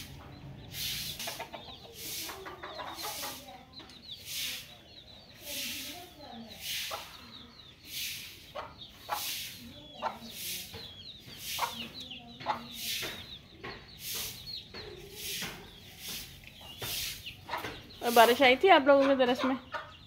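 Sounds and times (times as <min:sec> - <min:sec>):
chicks peeping: 0:00.0 - 0:20.0
hen clucking: 0:00.0 - 0:20.0.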